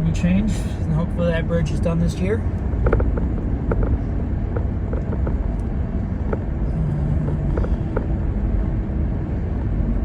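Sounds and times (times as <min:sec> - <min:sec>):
tyre and engine rumble: 0:00.0 - 0:10.0.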